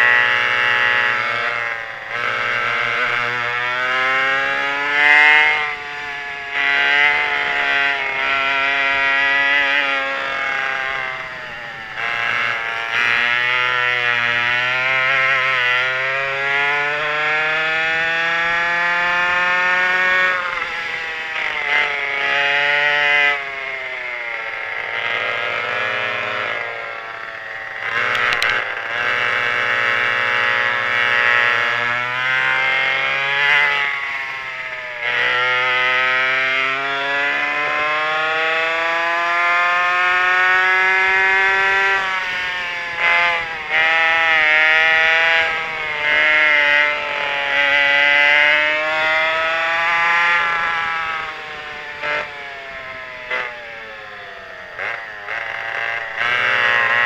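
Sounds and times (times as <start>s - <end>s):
racing kart engines revving: 0.0s - 57.0s.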